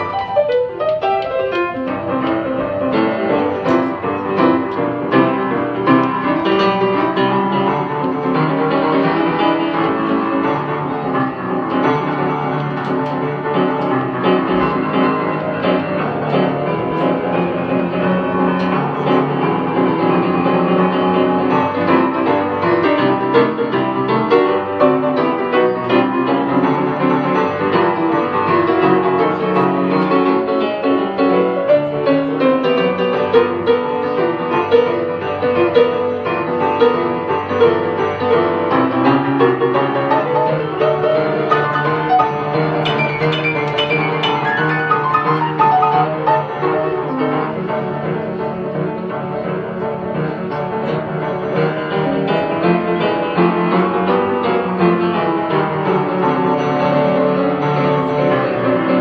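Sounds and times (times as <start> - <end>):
boogie piano playing: 0.0 - 59.0.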